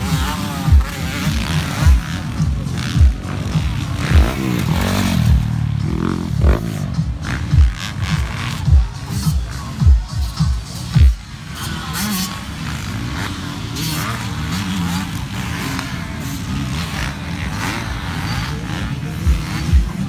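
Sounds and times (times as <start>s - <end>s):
dirt bike engines racing: 0.0s - 20.0s.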